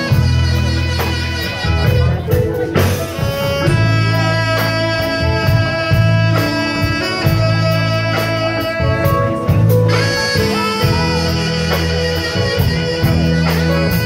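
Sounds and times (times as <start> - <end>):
bass guitar notes: 0.0 - 14.0
drum kit hits: 0.0 - 14.0
held guitar lead notes: 0.0 - 14.0
keyboards: 0.0 - 14.0
saxophone: 0.0 - 14.0.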